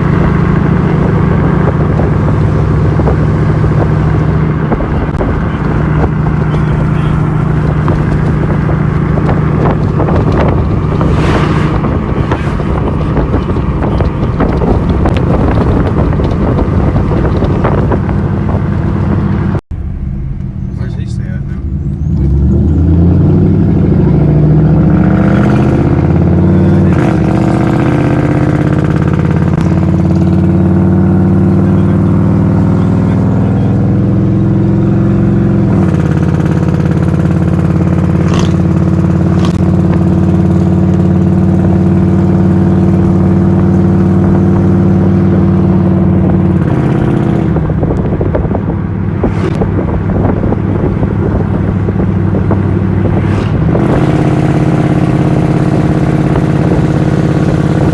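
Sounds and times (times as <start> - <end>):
vehicle engine accelerating: 0.0 - 57.9.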